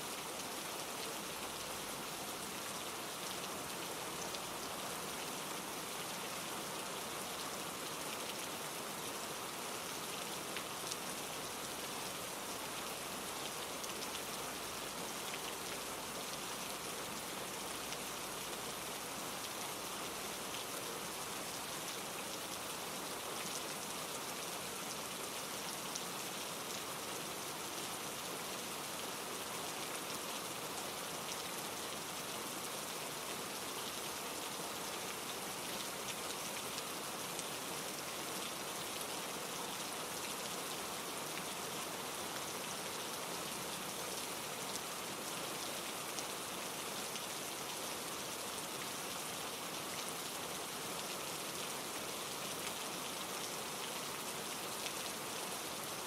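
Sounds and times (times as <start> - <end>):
rain falling through trees: 0.0 - 56.0
stream rushing over rocks: 0.0 - 56.0.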